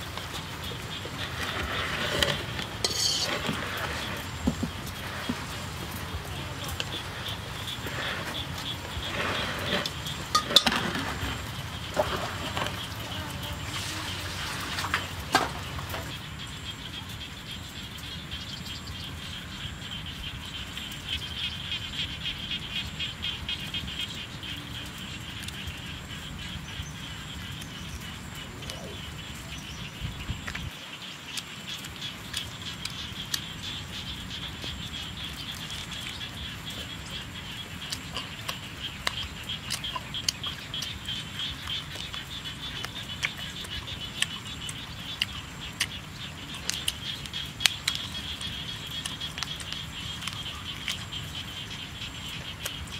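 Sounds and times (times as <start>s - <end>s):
chorus of calling animals: 0.0s - 52.9s.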